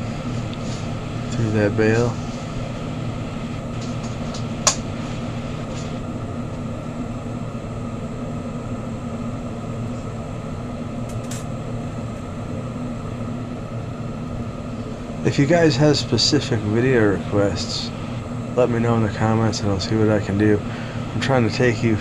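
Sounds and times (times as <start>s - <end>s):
bench torch roaring: 0.0s - 22.0s.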